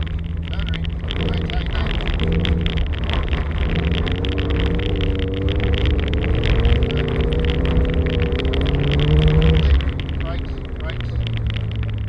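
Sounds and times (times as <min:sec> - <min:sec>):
car engine under throttle: 0:00.0 - 0:12.0
tyres crackling on gravel: 0:00.0 - 0:12.0.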